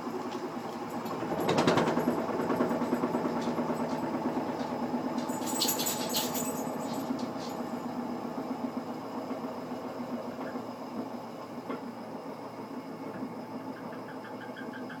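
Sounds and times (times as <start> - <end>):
washing machine rattling rumble: 0.0 - 15.0.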